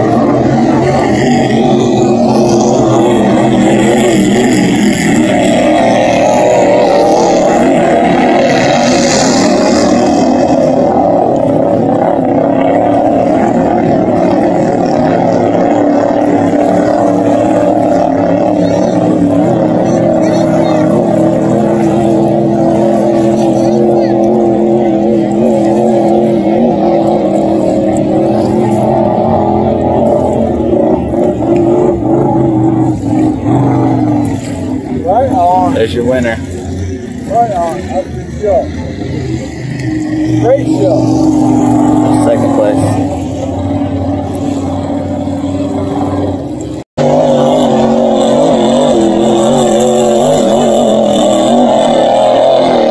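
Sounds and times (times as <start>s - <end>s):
boat engine running high pitch: 0.0s - 52.9s.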